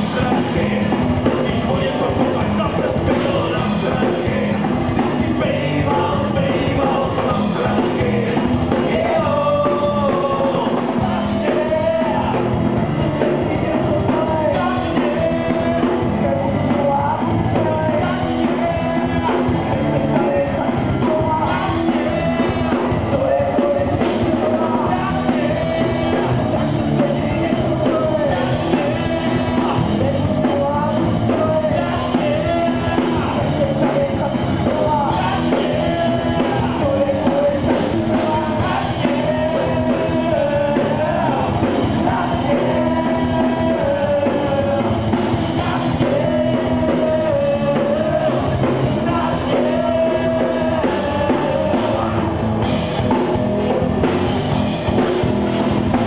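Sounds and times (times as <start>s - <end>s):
person singing: 0.0s - 54.2s
rock band playing live: 0.0s - 56.0s.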